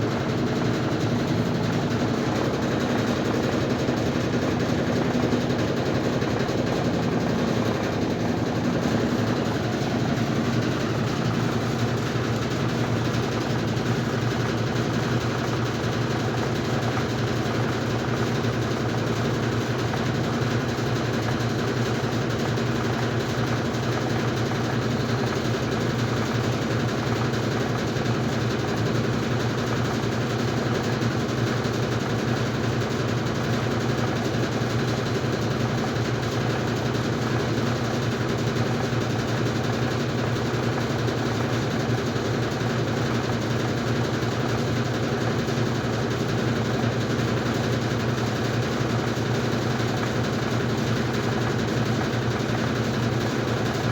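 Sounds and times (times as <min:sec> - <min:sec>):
washing machine spinning: 0:00.0 - 0:53.9.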